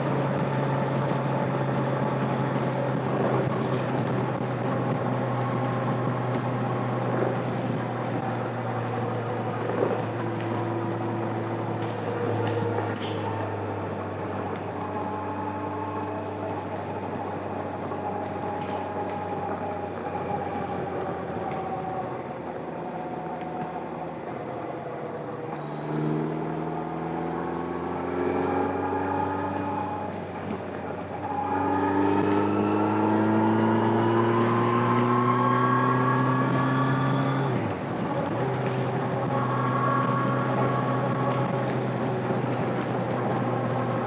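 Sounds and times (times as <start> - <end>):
gear upshifts: 0.0 - 44.0
motorcycle engine and exhaust: 0.0 - 44.0.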